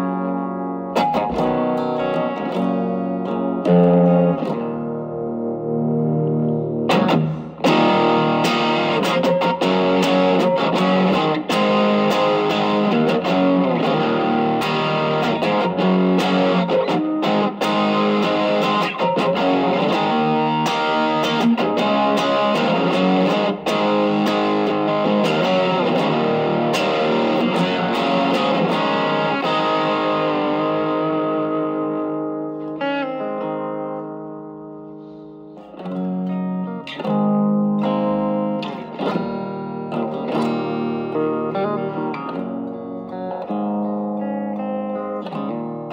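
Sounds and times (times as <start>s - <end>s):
overdriven electric guitar: 0.0s - 45.9s.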